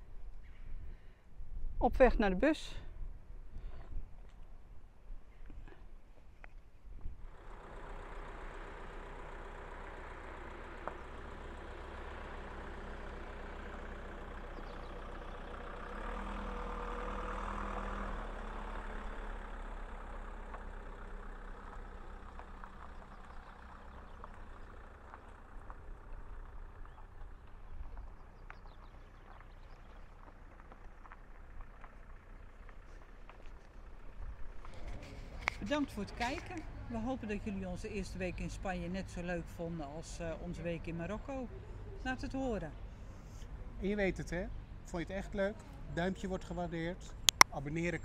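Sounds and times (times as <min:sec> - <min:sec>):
van engine driving on dirt: 0:03.1 - 0:48.0.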